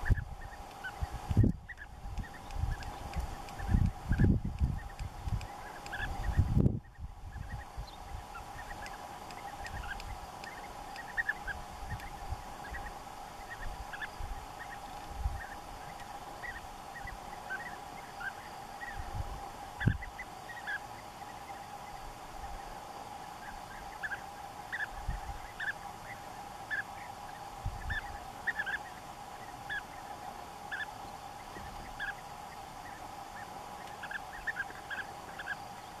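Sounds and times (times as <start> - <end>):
bee-eaters calling: 0.0 - 36.0.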